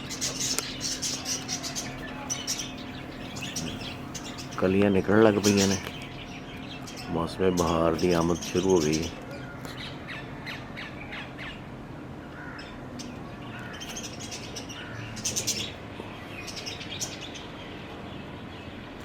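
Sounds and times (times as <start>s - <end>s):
birds chirping: 0.0s - 19.0s
low steady hum: 0.0s - 19.0s.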